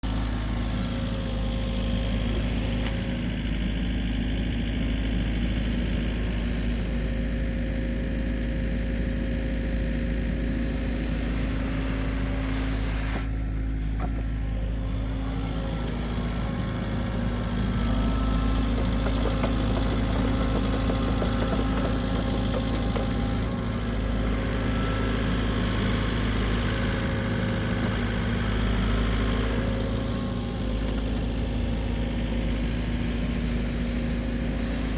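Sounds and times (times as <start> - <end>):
machine engine humming: 0.0 - 34.9.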